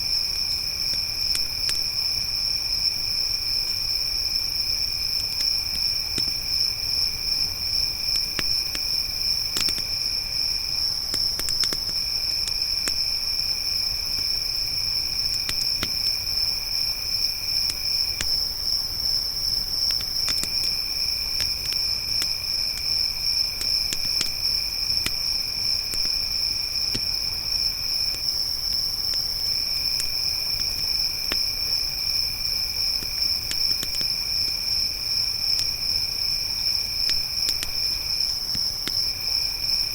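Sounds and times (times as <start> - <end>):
crickets trilling: 0.0 - 39.9
campfire crackling: 0.2 - 39.9.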